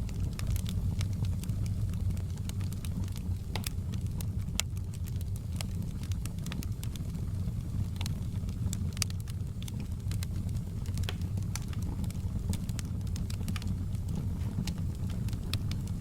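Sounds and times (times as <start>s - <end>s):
burning logs crackling and popping: 0.0s - 16.0s
fire flames rumbling: 0.0s - 16.0s.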